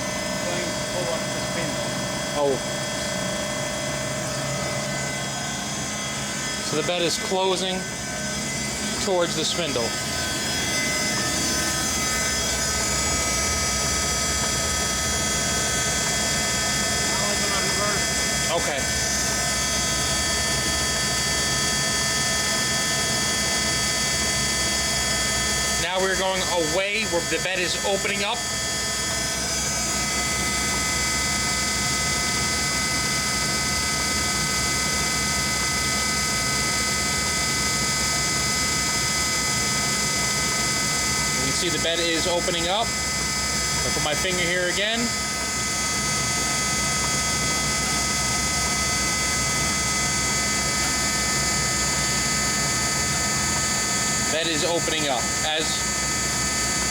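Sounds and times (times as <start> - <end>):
lathe machine hum and whine: 0.0 - 56.9.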